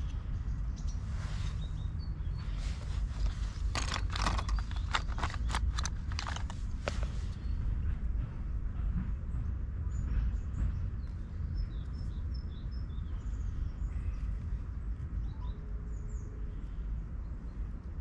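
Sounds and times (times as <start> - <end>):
songbirds chirping: 0.0 - 8.3, 9.2 - 18.0
steady low rumble: 0.0 - 18.0.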